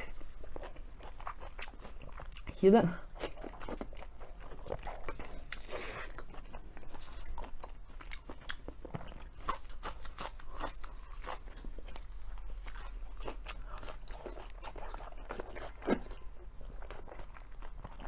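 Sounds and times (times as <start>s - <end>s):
chewing with wet mouth smacks: 0.0s - 18.0s.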